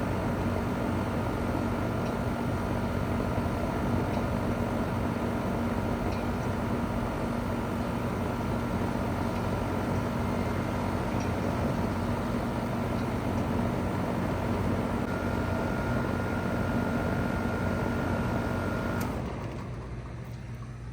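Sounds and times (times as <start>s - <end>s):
compressor humming: 0.0s - 20.9s.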